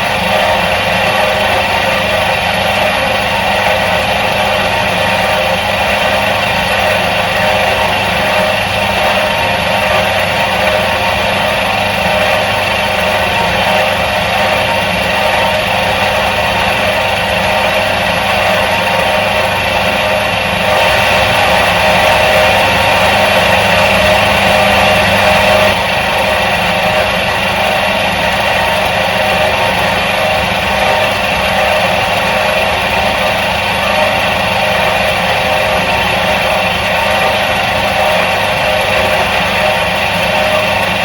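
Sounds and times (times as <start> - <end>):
washing machine motor humming: 0.0 - 41.0.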